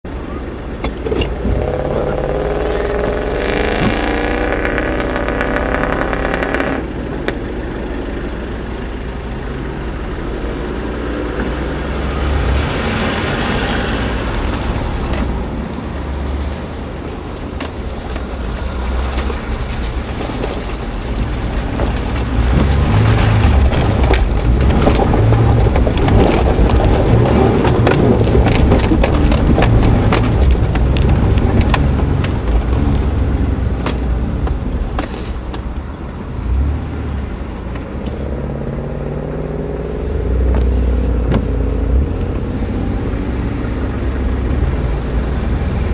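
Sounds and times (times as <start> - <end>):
off-road vehicle engine revving: 0.2 - 17.0, 17.8 - 35.6, 36.4 - 45.9.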